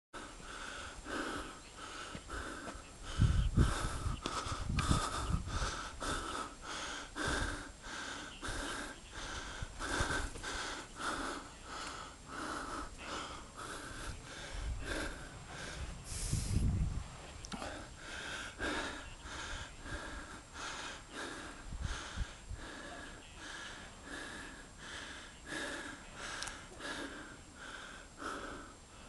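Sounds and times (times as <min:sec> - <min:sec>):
heavy wheezy breathing: 0:00.2 - 0:16.8, 0:17.5 - 0:29.0.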